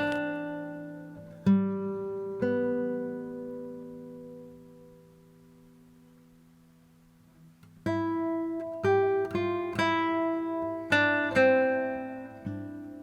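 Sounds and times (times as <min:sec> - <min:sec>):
strummed acoustic guitar chords: 0:00.0 - 0:13.0.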